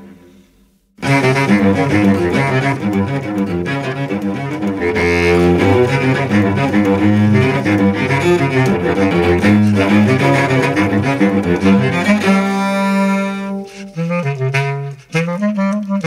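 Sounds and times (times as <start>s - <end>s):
bowed viola da gamba: 1.0s - 16.0s.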